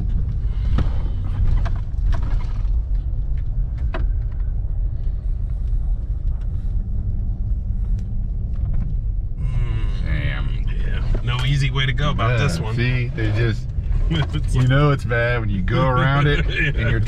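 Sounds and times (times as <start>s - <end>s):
truck driving rumble: 0.0s - 17.0s.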